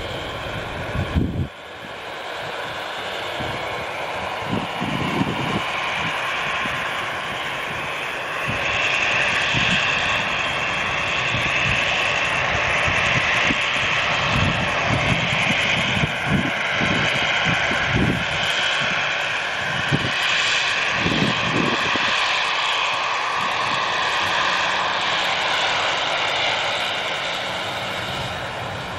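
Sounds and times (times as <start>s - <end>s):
jet engines whining and rumbling: 0.0s - 28.9s.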